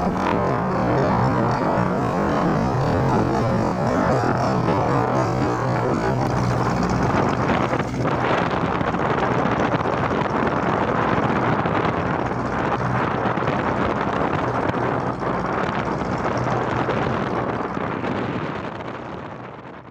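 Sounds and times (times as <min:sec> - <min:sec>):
diesel engine humming: 0:00.0 - 0:17.9
wind buffeting microphone: 0:00.0 - 0:19.9.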